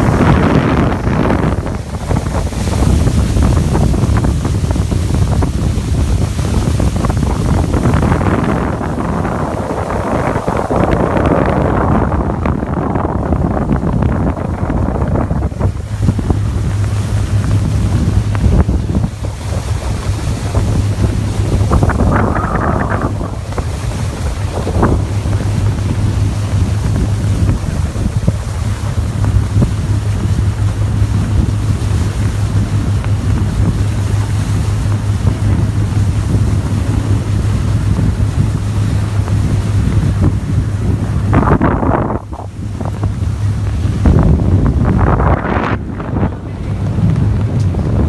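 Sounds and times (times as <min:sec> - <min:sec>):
boat engine drone: 0:00.0 - 0:48.0
water rushing along hull: 0:00.0 - 0:48.0
wind buffeting microphone: 0:00.0 - 0:48.0.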